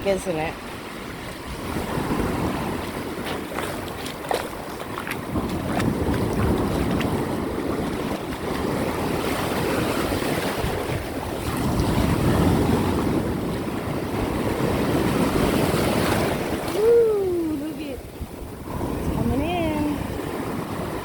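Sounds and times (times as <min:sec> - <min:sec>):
surf washing onto beach: 0:00.0 - 0:21.0
wind rumbling on microphone: 0:00.0 - 0:21.0.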